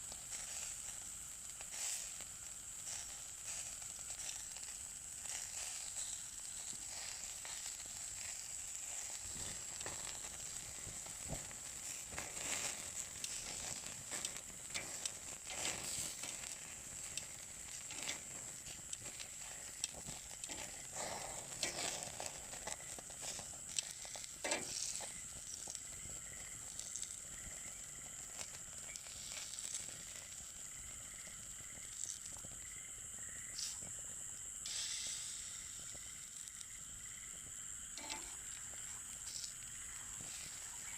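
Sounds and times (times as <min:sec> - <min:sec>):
meat sizzling on a grill: 0:00.0 - 0:40.9
wood fire popping and crackling: 0:00.0 - 0:40.9.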